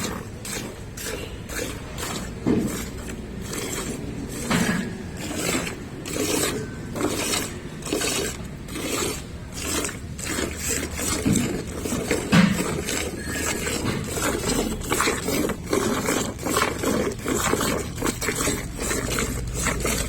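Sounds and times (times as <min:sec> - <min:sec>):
milk squirting into a pail: 0:00.0 - 0:20.0.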